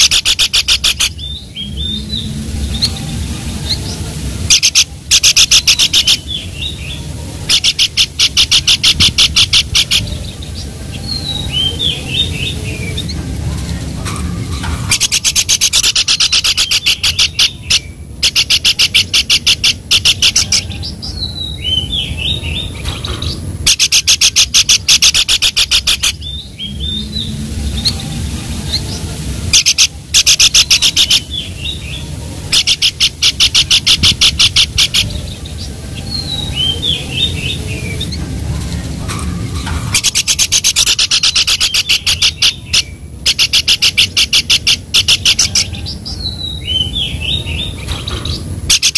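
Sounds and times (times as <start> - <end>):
bird rattling trills: 0.0 - 2.1, 2.7 - 20.9, 21.5 - 28.1, 28.7 - 48.9.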